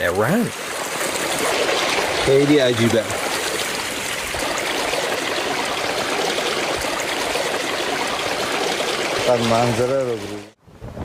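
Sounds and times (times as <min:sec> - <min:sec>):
spring water flowing: 0:00.0 - 0:10.6.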